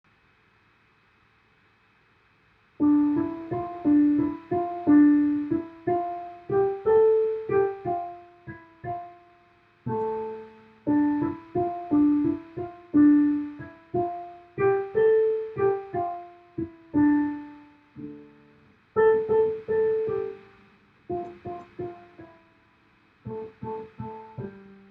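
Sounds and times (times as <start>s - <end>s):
solo piano melody: 2.8s - 24.9s.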